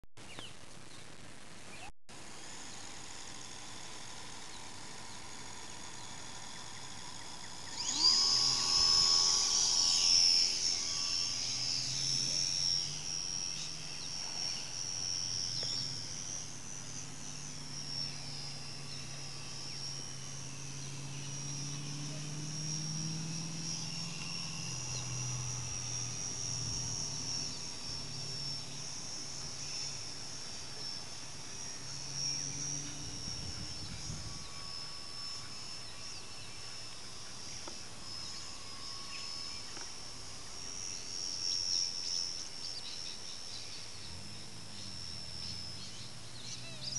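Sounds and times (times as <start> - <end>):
model airplane motor whine: 1.6 - 46.9.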